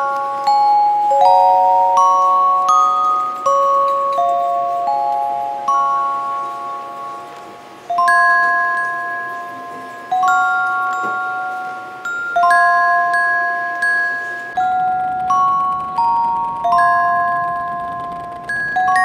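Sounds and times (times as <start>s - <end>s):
slow ringing bell-like music: 0.0s - 19.0s.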